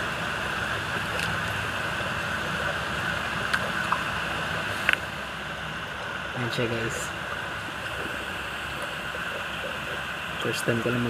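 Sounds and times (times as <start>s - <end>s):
room noise hiss: 0.0s - 11.0s.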